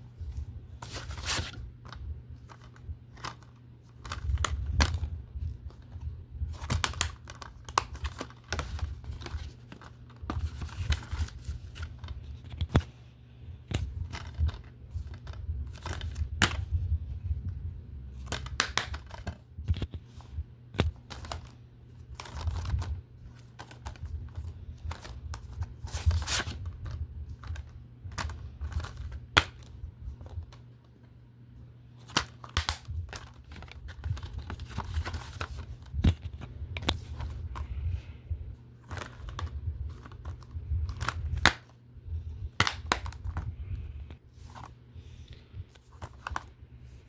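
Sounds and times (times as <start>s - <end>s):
crinkly rustling: 0.1s - 17.5s, 20.9s - 30.7s, 32.0s - 47.0s.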